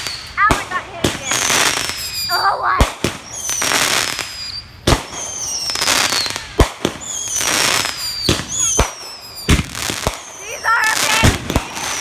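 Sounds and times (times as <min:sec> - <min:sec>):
firework whistles falling in pitch: 0:00.0 - 0:00.3, 0:01.3 - 0:02.6, 0:03.2 - 0:12.0
firework hissing: 0:00.0 - 0:12.0
sharp firework pops: 0:00.0 - 0:12.0.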